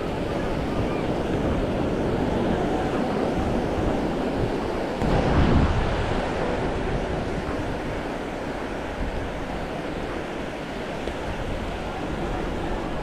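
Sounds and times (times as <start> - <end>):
ocean waves washing on beach: 0.0 - 13.0
wind on microphone: 0.0 - 13.0.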